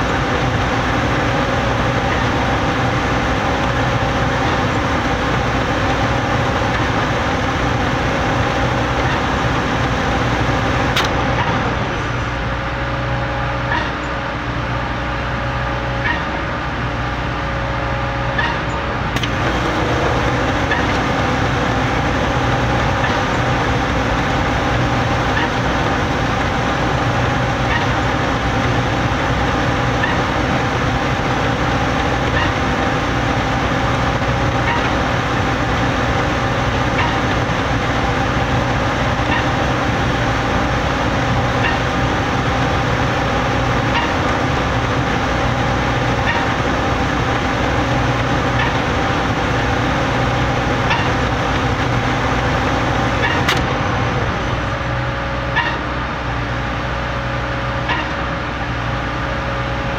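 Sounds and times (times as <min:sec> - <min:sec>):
concrete pump engine drone: 0:00.0 - 0:59.9.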